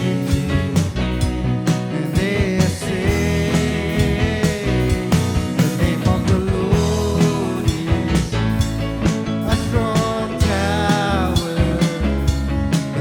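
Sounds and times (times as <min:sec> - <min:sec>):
person singing: 0:00.0 - 0:01.0, 0:01.8 - 0:08.6, 0:09.4 - 0:13.0
band playing: 0:00.0 - 0:13.0
steady drum beat: 0:00.0 - 0:13.0.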